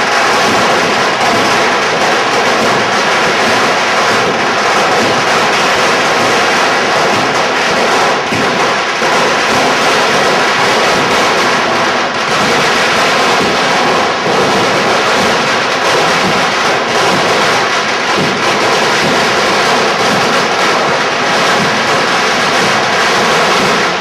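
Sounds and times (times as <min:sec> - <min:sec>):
fireworks and firecrackers crackling: 0:00.0 - 0:24.0.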